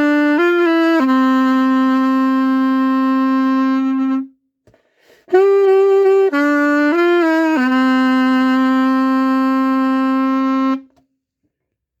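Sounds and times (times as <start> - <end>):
solo saxophone notes: 0.0 - 4.4, 5.2 - 11.0.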